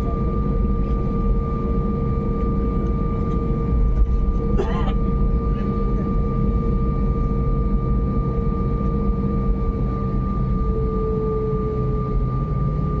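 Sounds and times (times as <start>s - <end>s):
airliner cabin rumble: 0.0s - 13.0s
jet engine whine: 0.0s - 13.0s.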